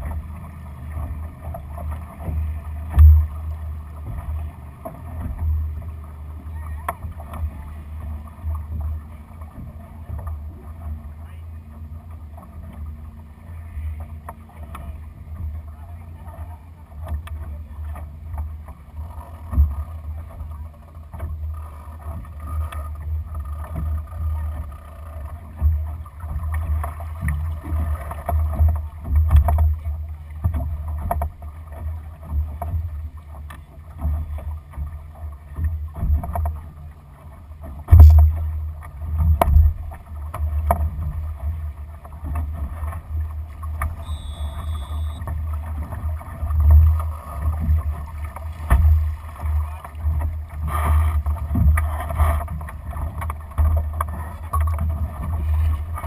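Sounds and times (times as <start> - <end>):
water washing along hull: 0.0 - 56.0.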